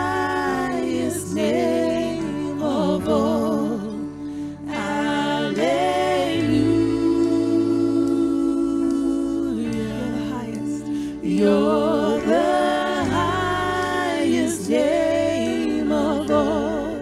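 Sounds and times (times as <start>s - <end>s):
women singing together: 0.0s - 17.0s.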